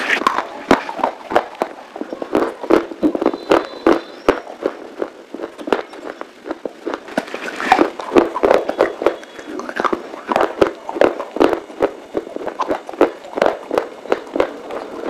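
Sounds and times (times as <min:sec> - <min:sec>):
chewing crunchy clay: 0:00.0 - 0:15.0.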